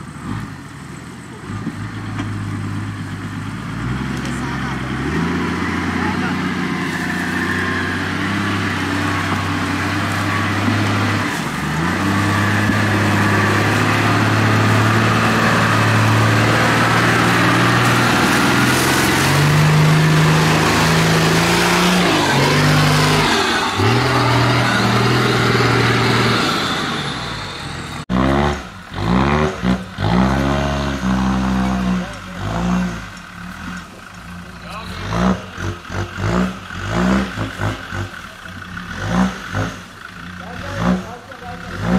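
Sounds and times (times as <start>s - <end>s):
diesel engines under load: 0.0s - 41.9s
engine revving in bursts: 3.6s - 33.8s, 34.7s - 41.9s.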